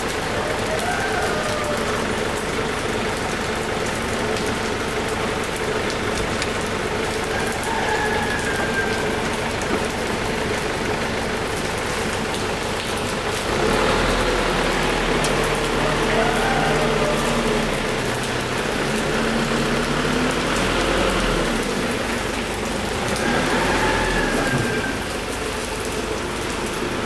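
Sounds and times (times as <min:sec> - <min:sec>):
deeper engine hum: 0:00.0 - 0:27.0
engine running: 0:00.0 - 0:27.0
rain hissing: 0:00.0 - 0:27.0.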